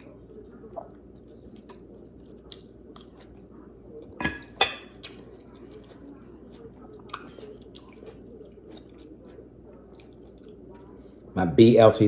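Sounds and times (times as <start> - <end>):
person chewing food: 0.0 - 11.3.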